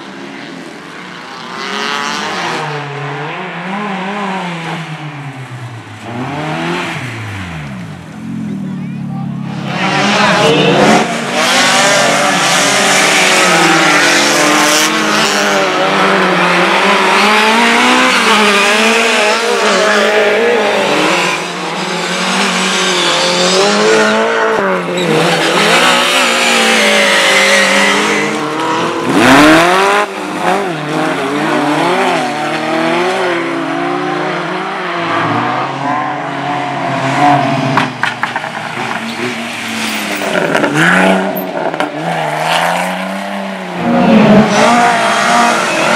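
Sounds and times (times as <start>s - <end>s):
race car engines revving: 0.0s - 45.9s.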